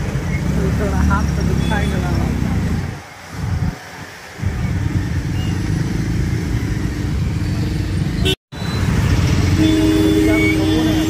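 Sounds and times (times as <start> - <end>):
road rumble: 0.0 - 11.0
vehicle engines: 0.0 - 11.0.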